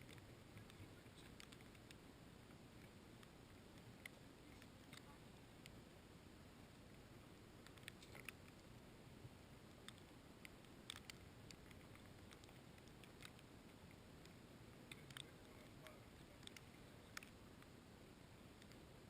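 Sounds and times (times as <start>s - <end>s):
faint irregular clicks: 0.0s - 19.0s
low background hiss: 0.0s - 19.0s.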